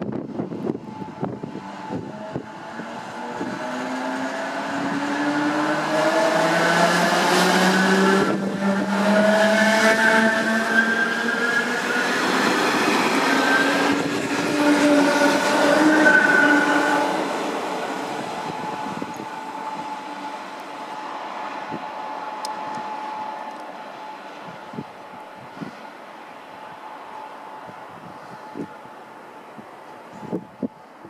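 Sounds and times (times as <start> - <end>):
train wheels rumbling: 0.0 - 26.0
train traction motors whining: 0.0 - 29.2.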